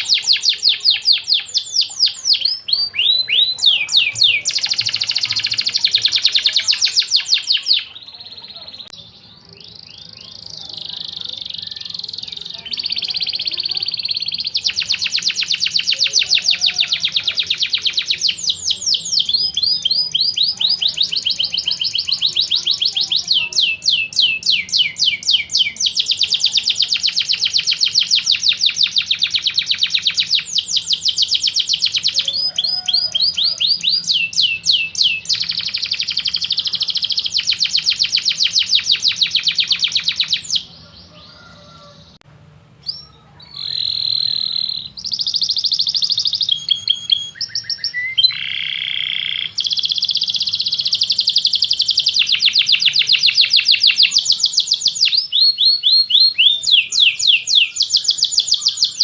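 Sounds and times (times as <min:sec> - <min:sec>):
canary singing trills: 0:00.0 - 0:42.2, 0:42.8 - 0:59.0.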